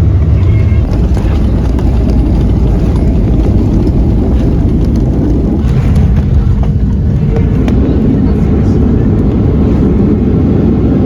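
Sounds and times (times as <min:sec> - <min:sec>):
jet airliner engines rumbling: 0:00.0 - 0:11.0.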